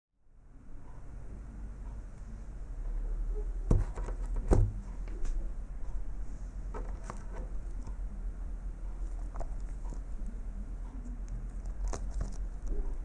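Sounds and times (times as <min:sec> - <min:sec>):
steady low hum: 0:00.2 - 0:13.0.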